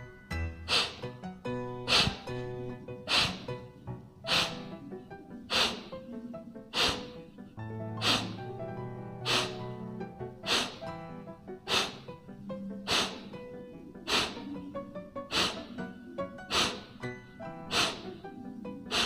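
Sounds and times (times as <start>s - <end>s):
background music: 0.0s - 19.0s
forceful exhalations through nose: 0.6s - 1.2s, 1.8s - 6.1s, 6.7s - 8.6s, 9.2s - 9.8s, 10.4s - 19.0s.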